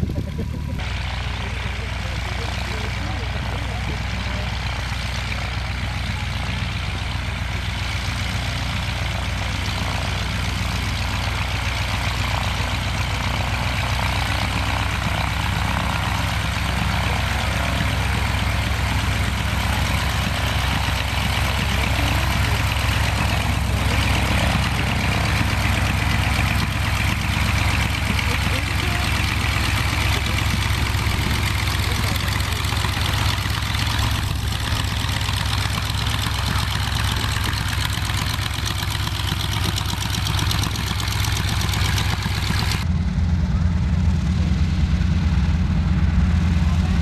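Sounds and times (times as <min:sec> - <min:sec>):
propeller plane engine drone: 0:00.0 - 0:47.0.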